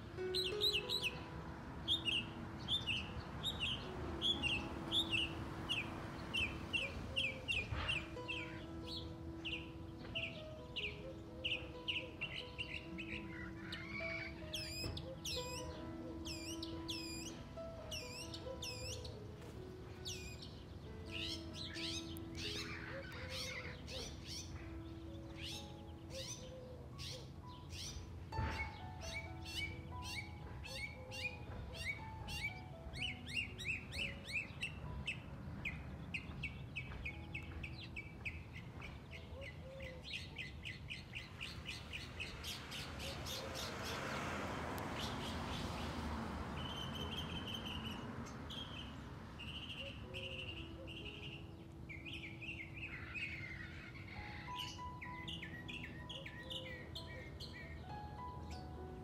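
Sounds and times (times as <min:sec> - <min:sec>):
birds chirping: 0:00.0 - 0:59.0
soft music with held notes: 0:00.0 - 0:59.0.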